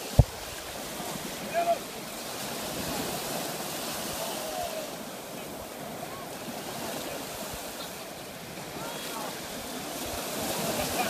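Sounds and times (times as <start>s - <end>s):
surf breaking on shoreline: 0.0s - 11.0s.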